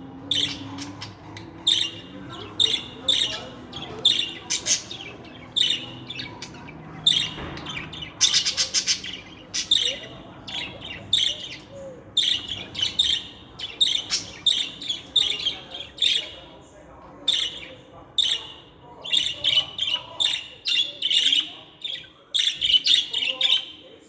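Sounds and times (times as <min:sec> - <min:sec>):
budgerigars chirping: 0:00.0 - 0:23.9.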